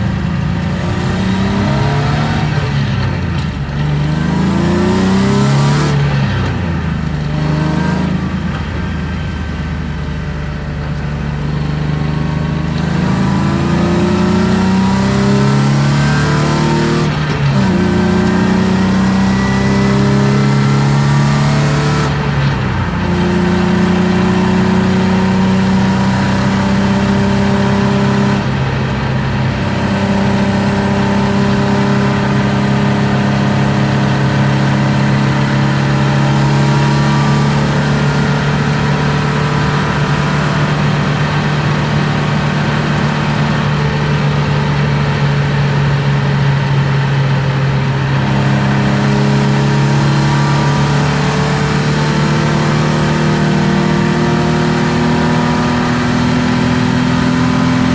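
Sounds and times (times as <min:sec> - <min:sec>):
car engine running hard from cabin: 0:00.0 - 0:57.9.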